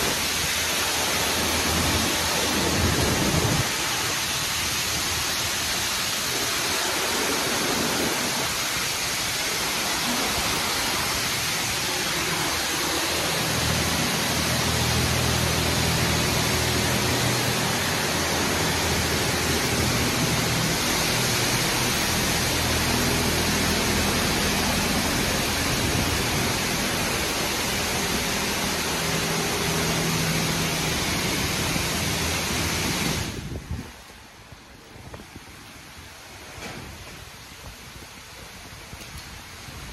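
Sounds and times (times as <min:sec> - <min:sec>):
low machine hum: 0:00.0 - 0:33.8
high-pressure water spray hissing: 0:00.0 - 0:39.9.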